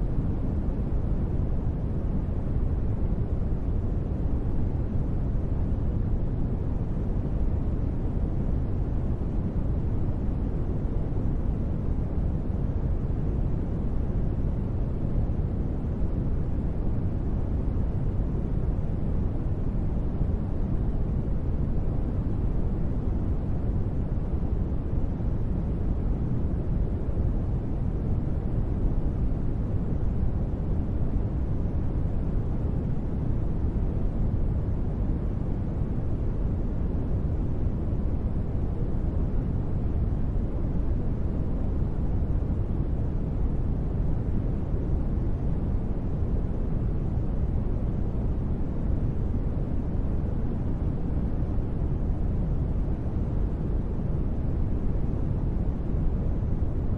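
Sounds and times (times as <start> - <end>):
deep steady noise ambience: 0.0 - 56.9.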